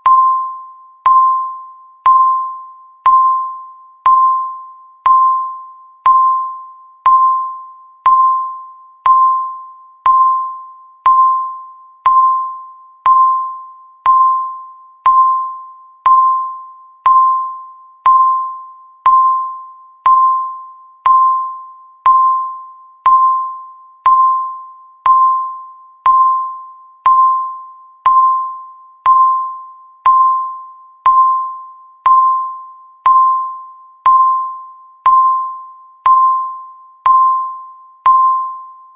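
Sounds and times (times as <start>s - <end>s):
countdown timer beeping: 0.0s - 38.8s.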